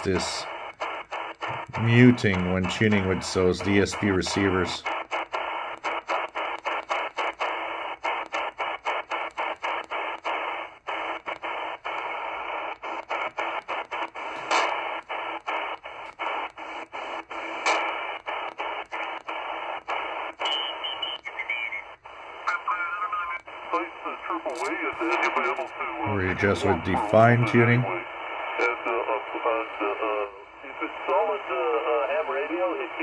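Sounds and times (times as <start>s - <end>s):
radio crackles: 0.0s - 33.0s
radio speaker hissing: 0.0s - 33.0s.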